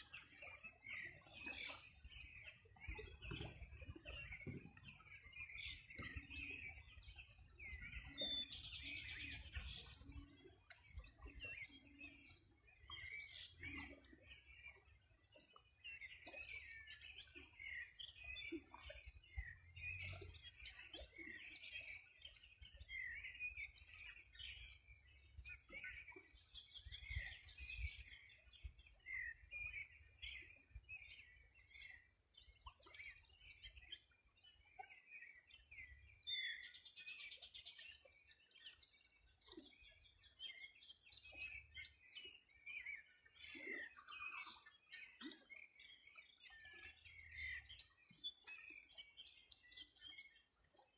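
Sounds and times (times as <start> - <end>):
small birds singing and chirping: 0.0 - 50.9.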